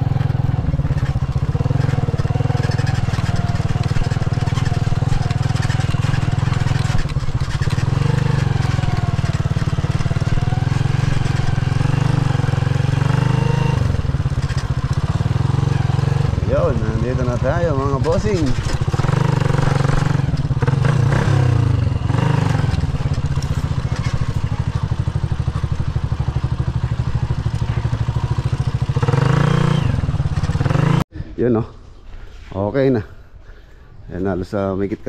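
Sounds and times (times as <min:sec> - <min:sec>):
motorcycle engine running: 0:00.0 - 0:31.1.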